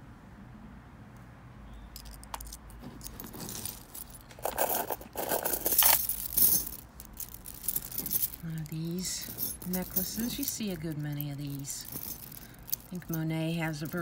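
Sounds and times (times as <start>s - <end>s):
metal chains jingling: 2.0s - 14.0s.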